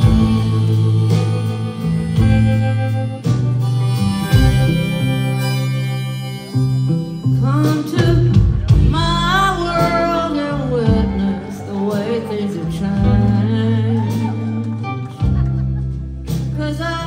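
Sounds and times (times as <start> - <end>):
bending melody line: 0.0 - 17.0
country blues band playing: 0.0 - 17.0.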